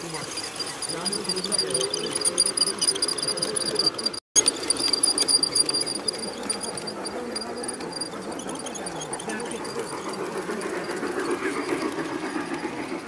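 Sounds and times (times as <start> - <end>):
insects chirping: 0.0 - 11.6
model train wheels clicking: 0.0 - 13.0.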